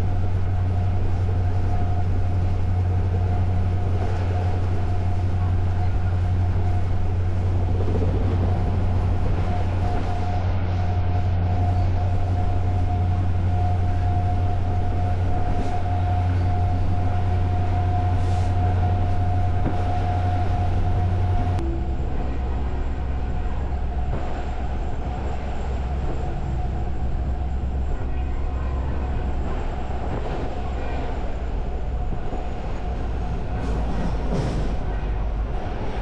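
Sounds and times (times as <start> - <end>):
steady whine: 0.0 - 34.1
rail and wheel noise: 0.0 - 36.0
train engine drone: 0.0 - 36.0.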